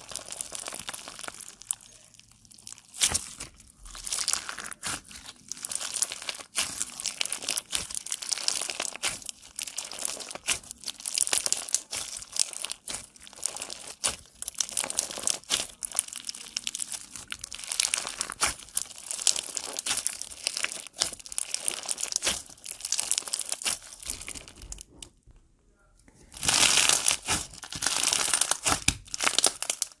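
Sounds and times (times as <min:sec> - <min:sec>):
beaded slime crackling and popping: 0:00.0 - 0:25.1, 0:26.2 - 0:30.0.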